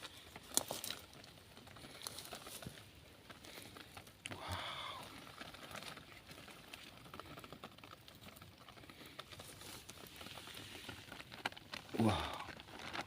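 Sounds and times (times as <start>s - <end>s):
faint rustling and crackling: 0.0s - 13.0s.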